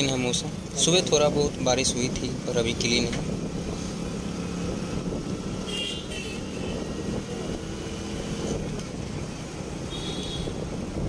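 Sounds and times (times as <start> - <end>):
motorcycle engine hum: 0.0 - 11.0
wind and road noise: 0.0 - 11.0.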